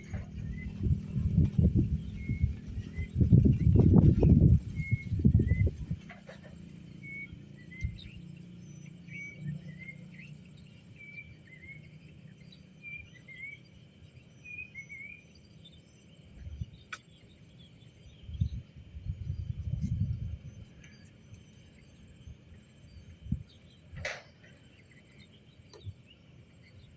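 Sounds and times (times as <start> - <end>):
bird chirping: 0.0 - 26.9
steady low hum: 0.0 - 26.9.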